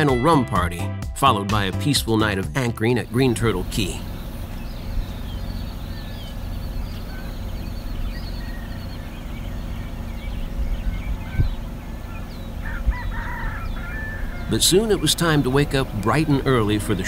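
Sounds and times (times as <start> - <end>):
birds chirping and calling: 3.0 - 17.0
steady low rumble: 3.0 - 17.0.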